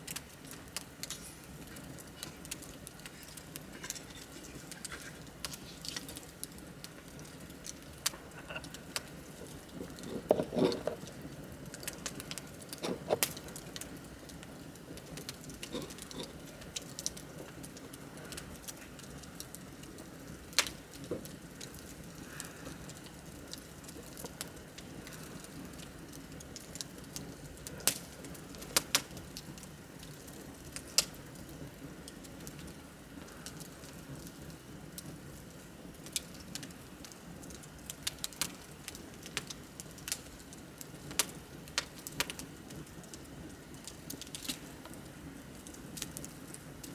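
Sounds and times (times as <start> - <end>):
crackles and pops of burning wood: 0.0 - 46.9
wood fire hissing: 0.0 - 46.9.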